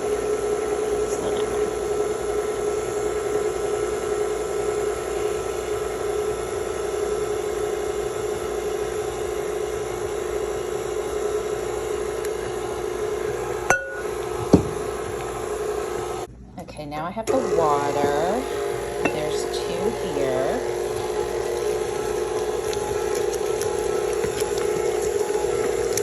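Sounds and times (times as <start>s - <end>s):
electric mixer running: 0.0s - 16.3s, 17.3s - 26.0s.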